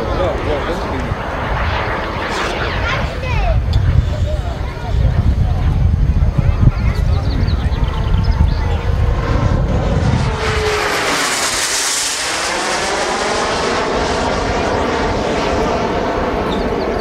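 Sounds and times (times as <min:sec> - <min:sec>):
jet turbine whine flying past: 0:00.0 - 0:06.0, 0:07.1 - 0:17.0.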